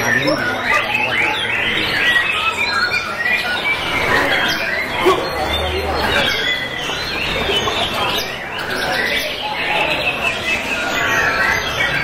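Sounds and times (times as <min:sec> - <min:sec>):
songbirds singing whistles and chirps: 0:00.0 - 0:12.0.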